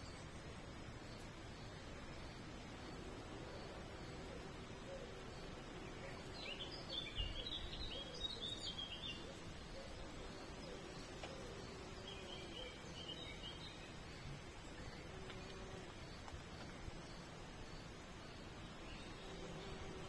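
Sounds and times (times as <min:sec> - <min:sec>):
background hiss: 0:00.0 - 0:20.0
songbird chirping: 0:00.0 - 0:20.0.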